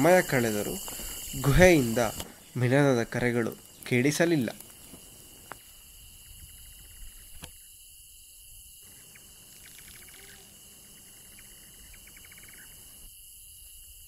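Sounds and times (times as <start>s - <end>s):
crickets chirping: 0.0s - 14.0s
night insects droning: 0.0s - 14.0s.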